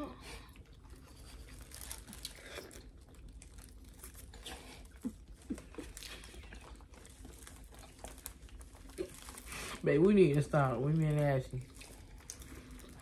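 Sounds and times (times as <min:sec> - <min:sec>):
wet chewing and smacking: 0:00.2 - 0:13.0
light crinkling: 0:00.5 - 0:13.0.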